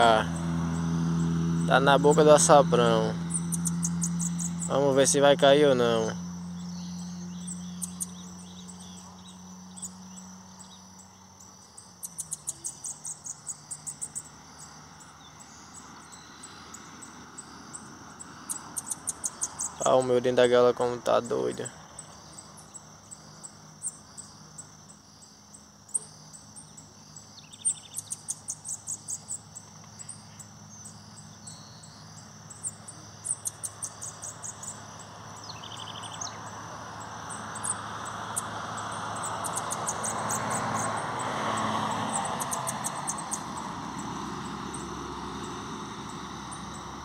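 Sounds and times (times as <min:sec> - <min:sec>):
crickets buzzing: 0:00.0 - 0:47.0
passing vehicle: 0:00.0 - 0:47.0
songbird chirping: 0:00.0 - 0:47.0.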